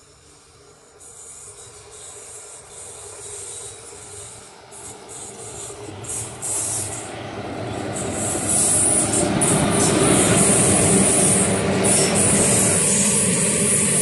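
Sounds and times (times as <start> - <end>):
high-pitched hiss: 0.0 - 7.1, 7.7 - 14.0
electric train on rails: 0.0 - 14.0.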